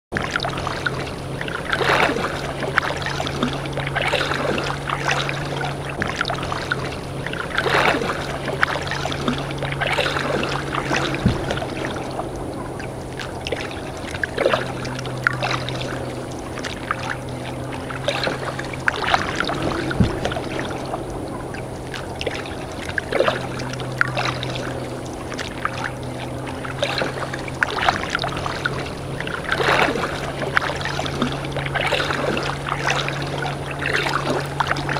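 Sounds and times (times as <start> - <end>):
paddle dipping and splashing: 0.1 - 34.9
steady low hum: 0.1 - 34.9
water sloshing against hull: 0.1 - 34.9.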